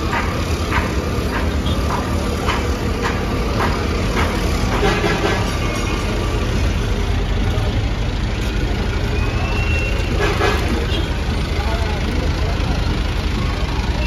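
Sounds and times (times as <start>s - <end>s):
footsteps on gritty street: 0.0s - 14.0s
tram and traffic rumble: 0.0s - 14.0s.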